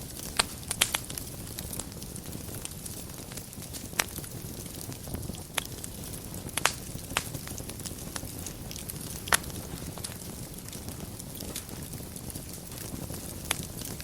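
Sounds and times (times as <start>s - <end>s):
sharp fire pops: 0.0s - 14.0s
wood fire crackling: 0.0s - 14.0s.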